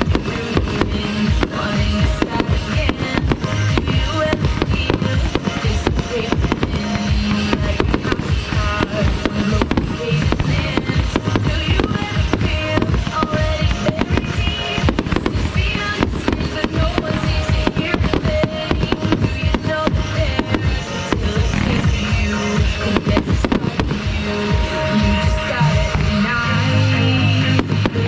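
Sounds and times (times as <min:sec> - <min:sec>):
fireworks bangs: 0:00.0 - 0:28.0
music playing: 0:00.0 - 0:28.0.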